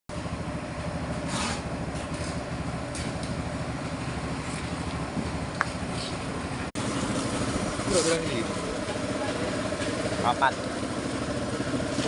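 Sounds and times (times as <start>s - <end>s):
pellet mill engine chugging: 0.1s - 12.0s.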